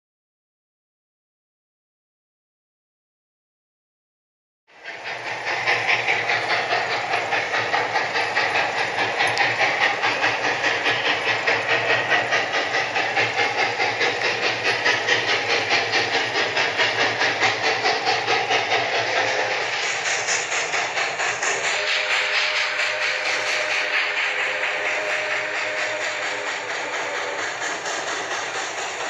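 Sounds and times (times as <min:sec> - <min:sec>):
hissing steam: 0:04.7 - 0:29.0
steam locomotive chuffing: 0:04.7 - 0:29.0.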